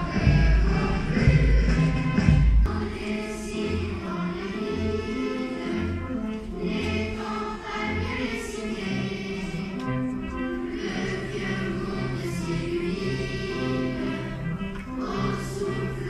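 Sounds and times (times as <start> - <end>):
choir singing held notes: 0.0 - 16.0.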